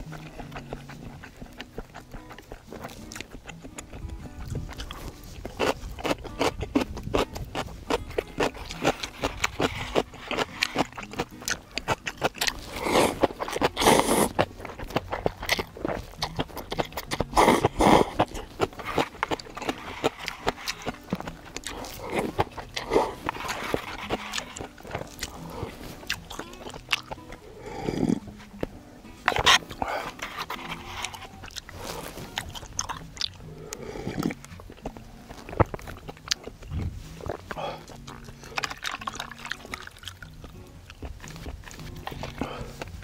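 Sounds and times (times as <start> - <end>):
person slurping and chewing noodles: 0.0 - 43.0.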